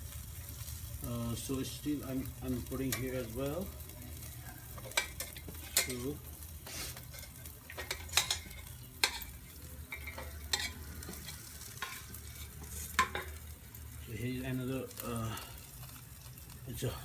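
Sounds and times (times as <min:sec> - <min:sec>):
chicken sizzling on a grill: 0:00.0 - 0:17.0.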